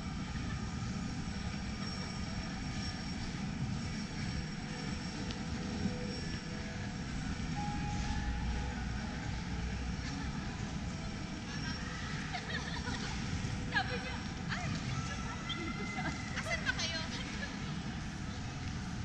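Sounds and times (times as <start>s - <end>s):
airport terminal hall ambience: 0.0s - 19.0s.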